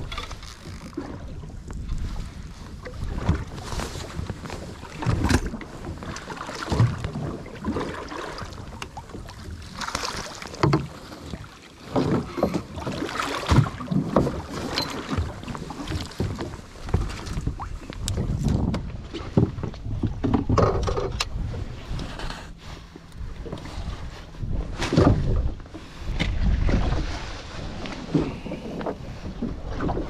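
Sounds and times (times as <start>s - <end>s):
wind buffeting microphone: 0.0s - 7.8s, 13.5s - 30.0s
water slapping against boat hull: 0.0s - 22.1s, 23.2s - 30.0s.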